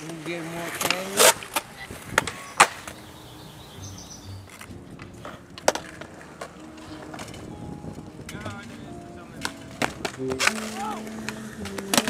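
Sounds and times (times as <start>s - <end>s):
skateboards clacking on concrete: 0.0s - 3.2s, 4.4s - 12.0s.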